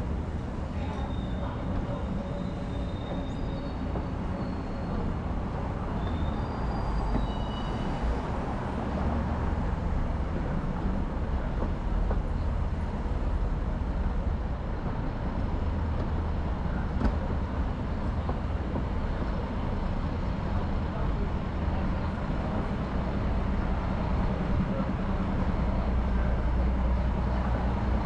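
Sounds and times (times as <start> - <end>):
vehicle rumbling in motion: 0.0 - 28.0.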